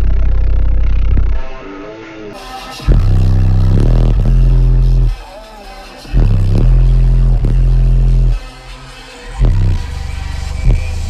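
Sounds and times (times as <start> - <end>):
bass-heavy music through subwoofers: 0.0 - 11.0.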